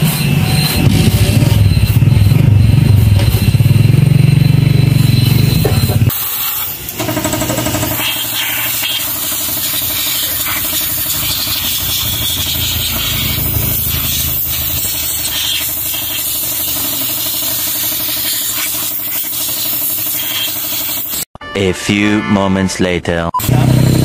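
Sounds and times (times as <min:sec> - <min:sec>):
motor running with low pulse: 0:00.0 - 0:21.2, 0:23.4 - 0:24.0.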